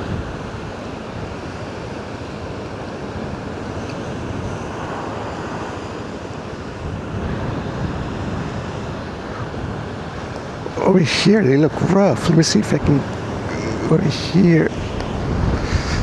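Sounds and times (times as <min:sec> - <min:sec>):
storm waves breaking: 0:00.0 - 0:16.0
wind on microphone: 0:00.0 - 0:16.0.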